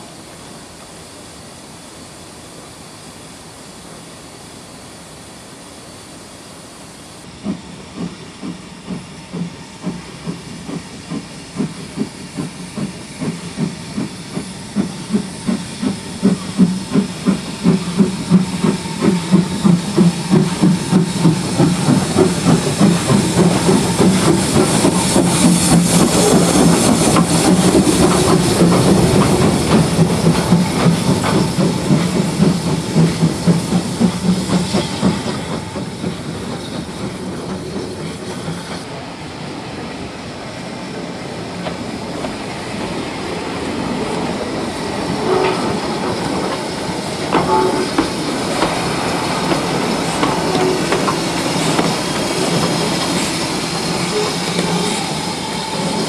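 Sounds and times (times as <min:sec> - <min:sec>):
steam hissing: 0:00.0 - 0:56.0
steam locomotive chuffing: 0:06.0 - 0:56.0.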